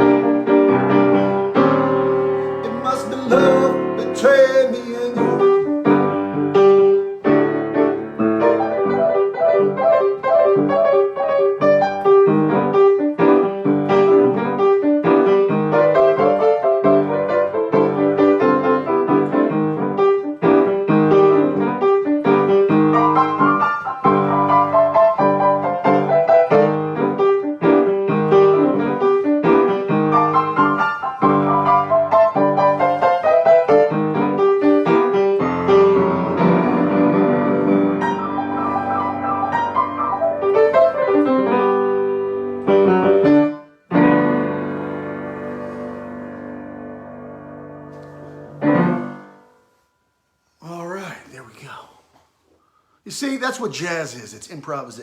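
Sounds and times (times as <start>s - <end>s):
piano playing: 0.0s - 51.8s.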